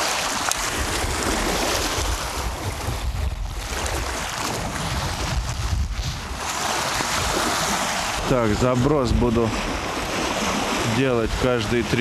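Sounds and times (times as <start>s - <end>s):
storm wind gusting on microphone: 0.0s - 12.0s.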